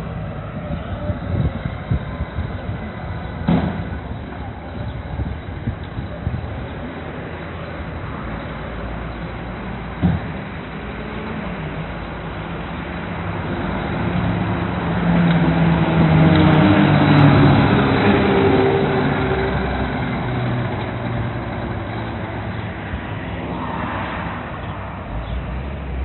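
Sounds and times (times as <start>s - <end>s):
fire engine diesel engine driving past: 0.0s - 26.0s.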